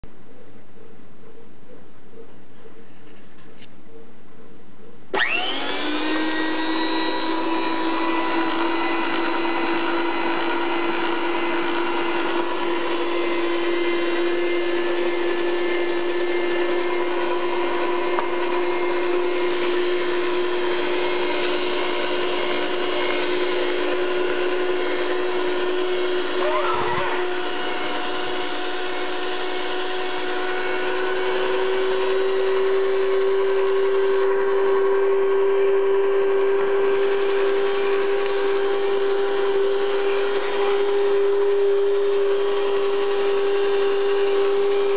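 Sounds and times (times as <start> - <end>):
electric meat grinder motor humming: 5.2 - 44.9.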